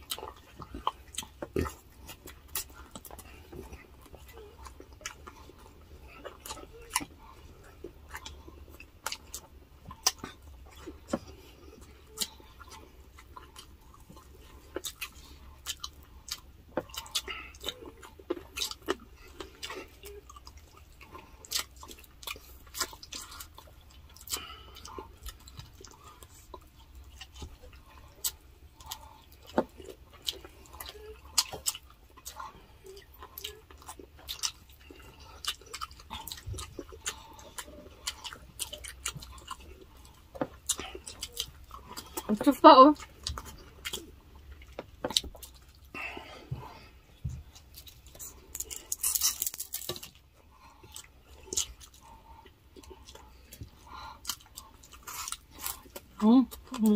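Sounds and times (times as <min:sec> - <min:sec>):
chewing mouth clicks and smacks: 0:00.0 - 0:42.4, 0:43.0 - 0:56.8.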